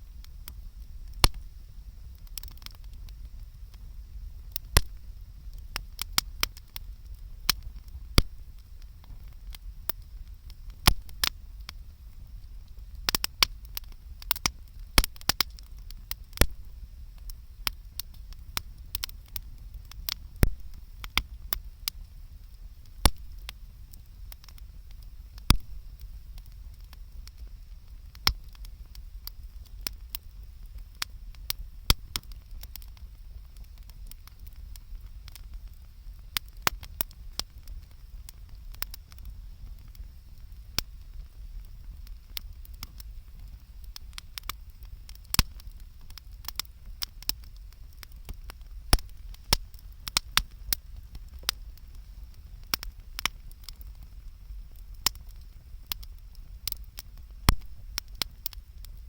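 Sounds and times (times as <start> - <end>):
bonfire crackling: 0.0 - 59.0
low steady rumble: 0.0 - 59.0
sharp fire pops: 0.1 - 59.0.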